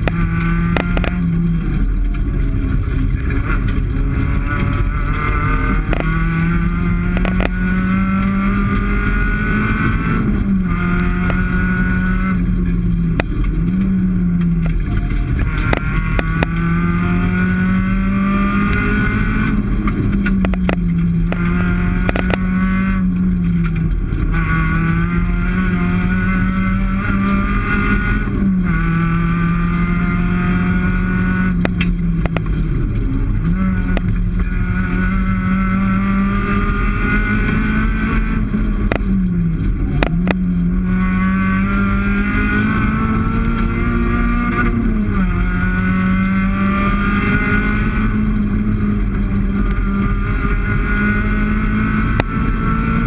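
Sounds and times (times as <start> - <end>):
rally car engine revving: 0.0 - 53.0
sharp clicks and knocks: 0.0 - 53.0.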